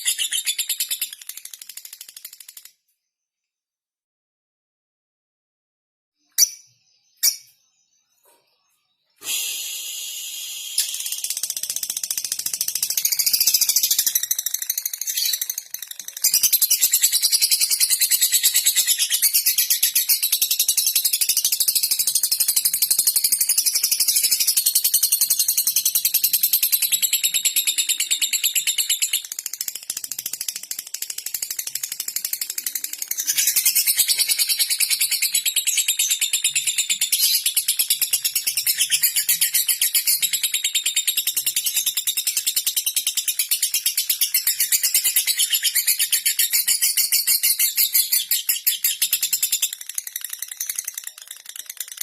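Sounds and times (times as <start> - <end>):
bird rapid ticking chatter: 0.5 - 2.8, 10.5 - 52.0.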